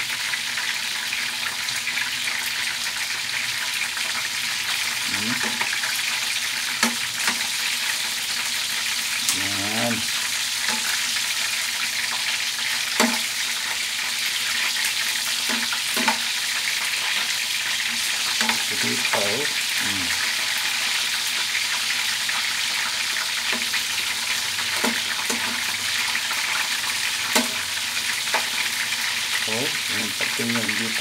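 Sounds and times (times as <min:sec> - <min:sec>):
chicken frying in oil: 0:00.0 - 0:31.0.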